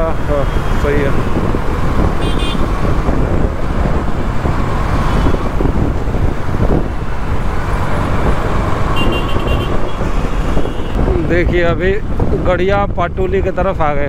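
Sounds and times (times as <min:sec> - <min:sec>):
motorcycle engine: 0:00.0 - 0:11.4
surrounding traffic: 0:00.0 - 0:14.0
wind on microphone: 0:00.2 - 0:13.7.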